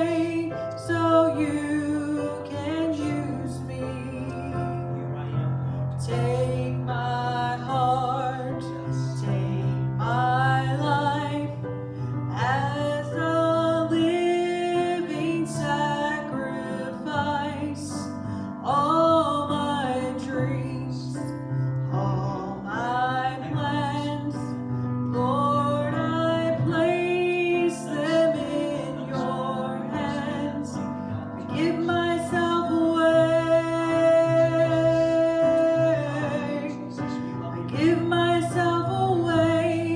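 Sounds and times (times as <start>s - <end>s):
person singing gospel song: 0.0s - 39.9s.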